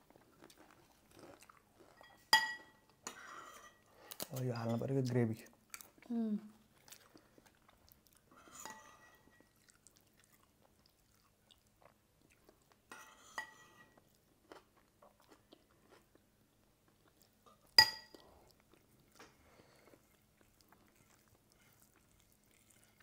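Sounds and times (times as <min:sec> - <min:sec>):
people chewing: 0:00.0 - 0:02.2, 0:05.6 - 0:12.9, 0:13.8 - 0:23.0.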